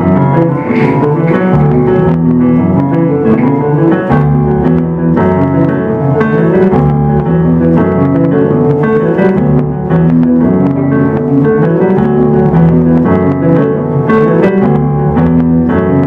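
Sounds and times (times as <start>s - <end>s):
electric guitar chords: 0.0s - 16.0s
keyboard bass notes: 0.0s - 16.0s.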